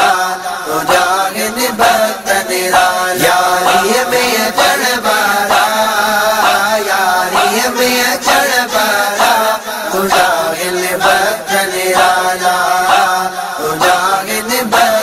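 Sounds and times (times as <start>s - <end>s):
voices chanting a melodic refrain: 0.0s - 15.0s.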